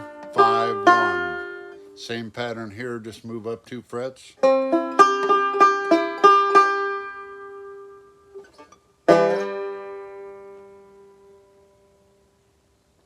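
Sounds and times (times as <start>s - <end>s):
banjo chord ringing: 0.0s - 2.7s, 4.4s - 12.2s
banjo picked notes: 0.0s - 3.6s, 4.4s - 12.0s.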